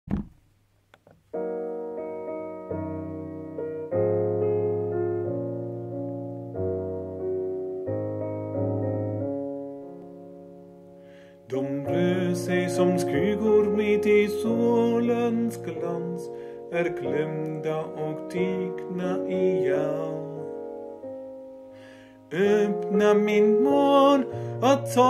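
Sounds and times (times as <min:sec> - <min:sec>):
piano playing hymn chords: 0:01.3 - 0:25.0.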